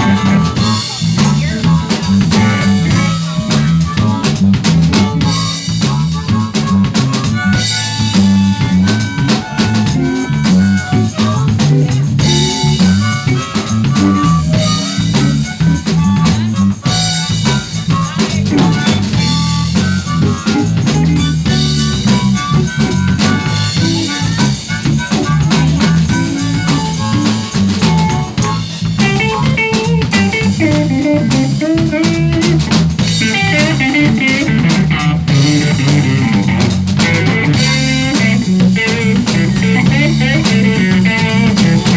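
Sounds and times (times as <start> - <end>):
live blues band playing: 0.0 - 41.9.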